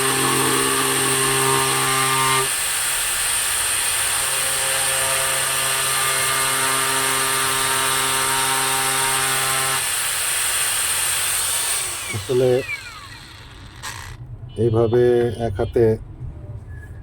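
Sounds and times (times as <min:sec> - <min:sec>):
angle grinder cutting wood: 0:00.0 - 0:14.2.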